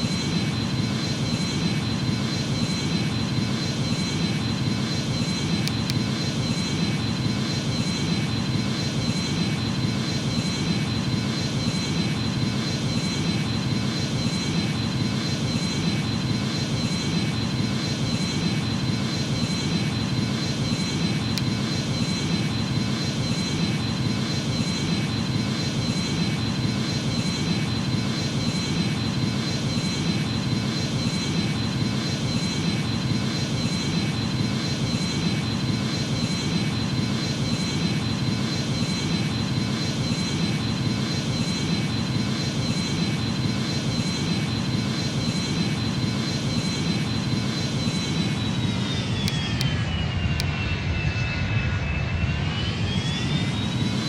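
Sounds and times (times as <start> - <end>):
jet engines roaring with fan whine: 0.0 - 54.0.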